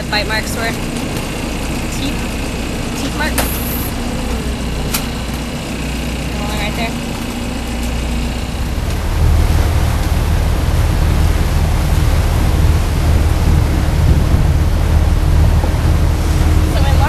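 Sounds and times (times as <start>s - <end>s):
boat engine running: 0.0s - 17.0s
water noise: 0.0s - 17.0s
wind: 0.0s - 17.0s.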